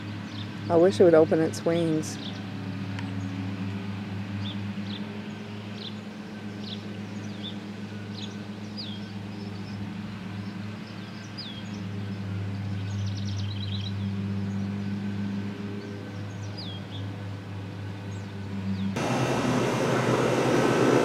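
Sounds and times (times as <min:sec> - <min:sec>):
low machine hum: 0:00.3 - 0:21.0.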